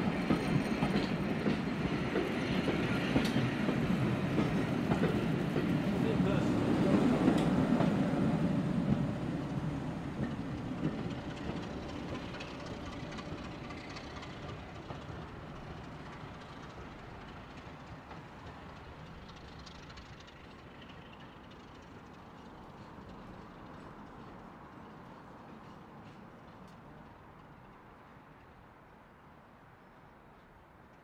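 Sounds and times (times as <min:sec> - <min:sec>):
train wheels rumbling on rails: 0:00.0 - 0:28.5.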